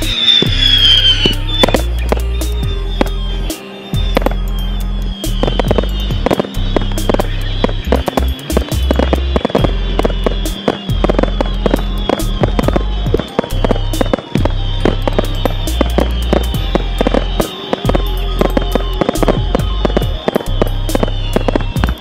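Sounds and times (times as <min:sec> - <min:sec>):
background music: 0:00.0 - 0:22.0
fireworks bangs and crackles: 0:00.0 - 0:22.0.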